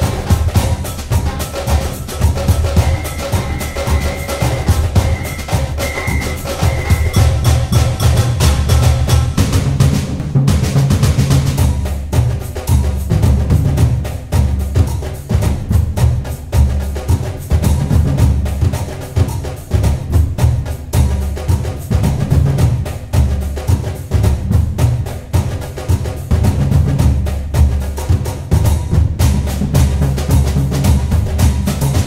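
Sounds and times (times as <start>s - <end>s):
music with drum beat and bass: 0.0s - 32.0s.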